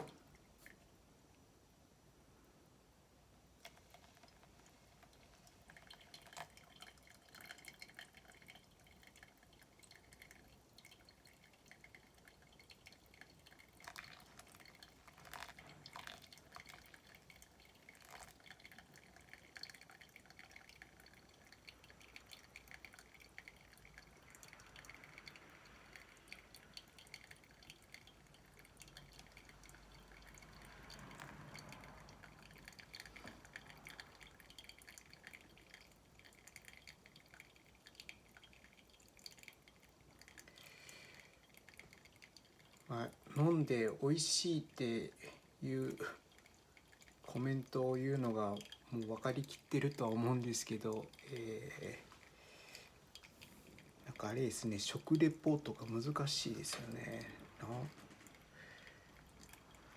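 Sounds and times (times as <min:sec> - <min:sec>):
coffee dripping: 0:00.0 - 0:01.4, 0:03.4 - 0:59.9
soft trickle of coffee: 0:00.0 - 0:02.7, 0:03.3 - 0:59.9.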